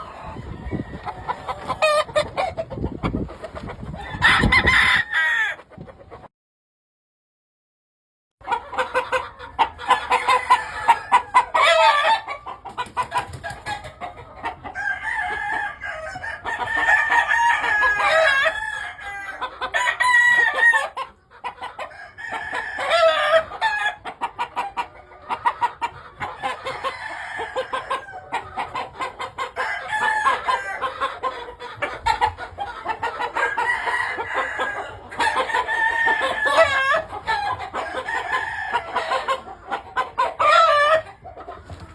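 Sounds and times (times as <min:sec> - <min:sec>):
roosters crowing: 0:00.0 - 0:02.7, 0:03.9 - 0:05.7, 0:08.6 - 0:41.9
hens clucking: 0:00.0 - 0:06.3, 0:08.4 - 0:41.9.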